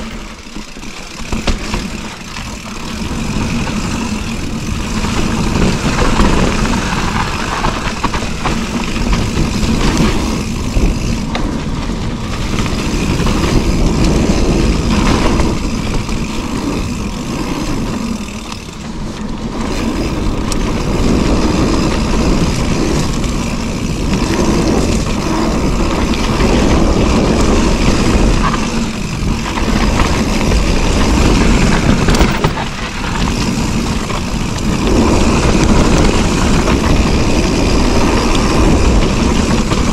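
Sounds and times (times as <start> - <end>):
bike rattling and knocking: 0.0 - 39.9
tyres rumbling on dirt: 0.0 - 39.9
wind rush on microphone: 0.0 - 39.9.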